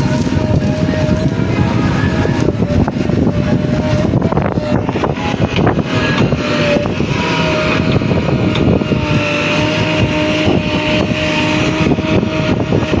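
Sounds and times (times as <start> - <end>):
diesel engines running: 0.0 - 13.0
high whine: 0.0 - 13.0.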